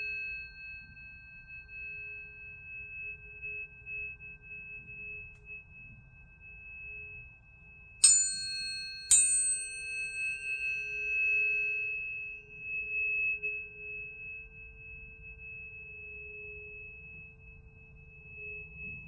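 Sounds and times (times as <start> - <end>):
pure ringing tone: 0.0 - 19.0
tuning fork metallic ping: 0.0 - 19.0.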